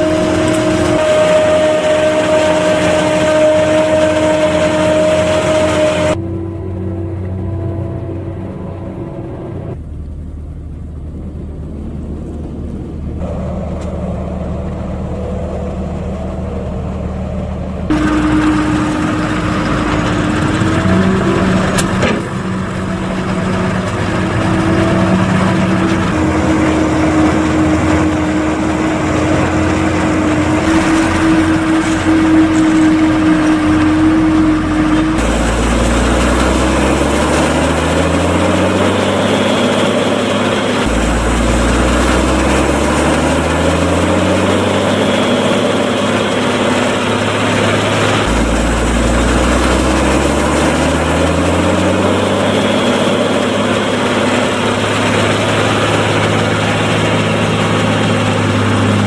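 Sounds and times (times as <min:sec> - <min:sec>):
tractor engine under load: 0:00.0 - 0:59.0
wheel loader engine: 0:00.0 - 0:59.0.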